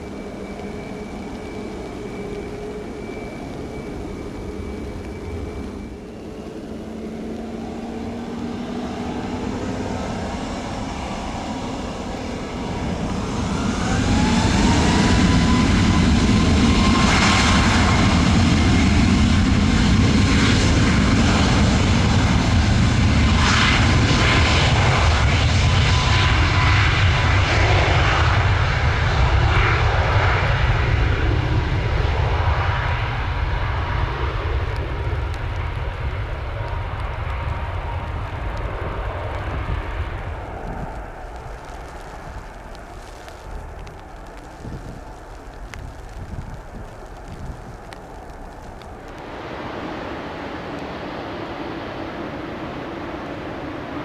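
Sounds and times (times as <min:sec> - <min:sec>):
crackling jet roar: 0:00.0 - 0:54.0
jet engine whine: 0:00.0 - 0:54.0.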